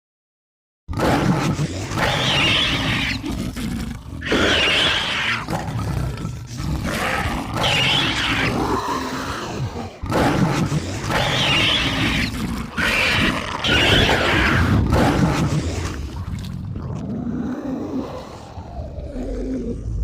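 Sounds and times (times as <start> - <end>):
creature growling and wheezing: 0.9 - 16.3, 17.0 - 20.0.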